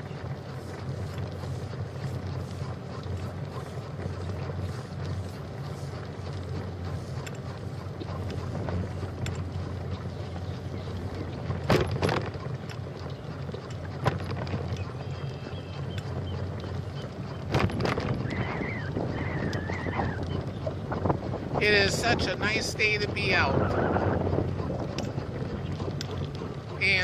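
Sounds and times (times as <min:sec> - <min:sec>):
bicycle rolling on trail: 0:00.0 - 0:27.0
wind buffeting microphone: 0:00.0 - 0:27.0.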